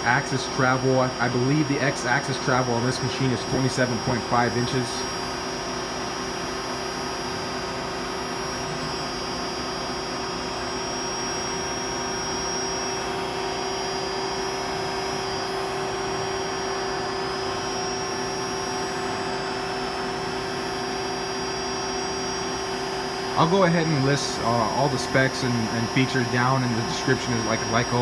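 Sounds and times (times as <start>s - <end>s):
constant hum tones: 0.0s - 28.0s
drilling machine whirring: 0.0s - 28.0s.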